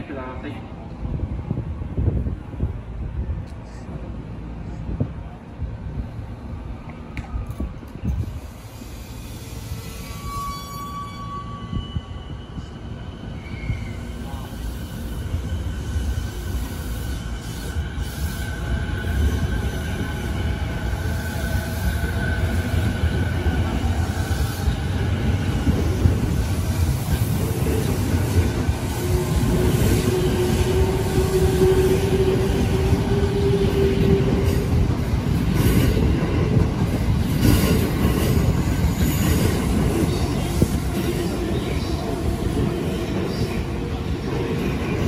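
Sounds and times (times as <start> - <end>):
train wheels rumbling on rails: 0.8 - 45.0
electric train whine: 5.9 - 45.0.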